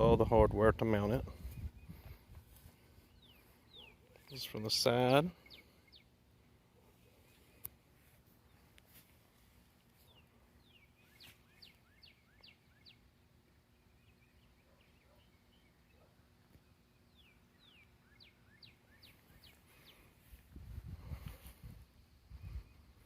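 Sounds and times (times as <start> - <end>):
faint bird song: 0.0 - 23.0.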